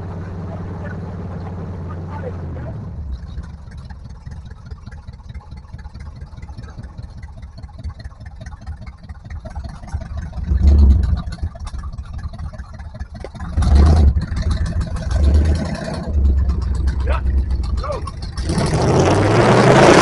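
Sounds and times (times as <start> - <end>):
engine running and revving: 0.0 - 20.0.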